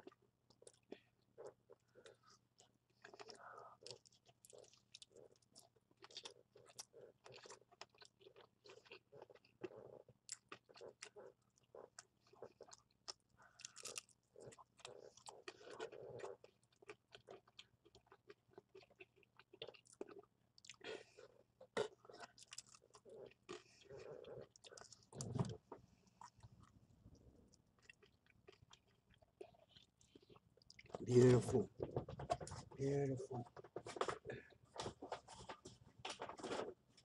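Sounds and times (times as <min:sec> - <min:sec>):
person chewing: 0:00.0 - 0:26.8, 0:27.4 - 0:31.3.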